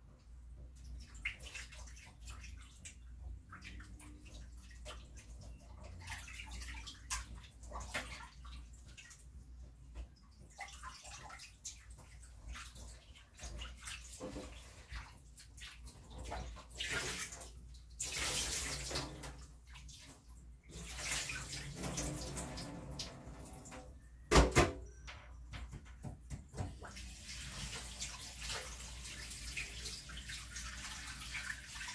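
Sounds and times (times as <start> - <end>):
water splashing in sink: 0.6 - 24.8, 25.7 - 31.9.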